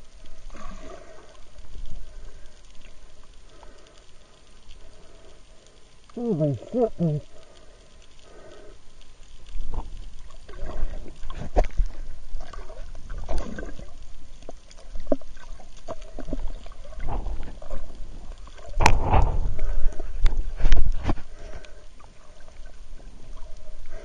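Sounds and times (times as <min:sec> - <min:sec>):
muffled underwater water rumble: 0:00.0 - 0:24.0.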